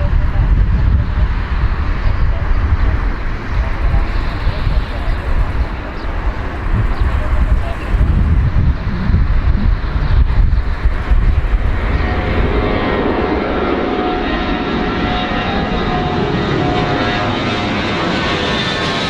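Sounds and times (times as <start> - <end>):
airplane engines whining: 0.0 - 19.0
wind rumbling on microphone: 0.0 - 19.0.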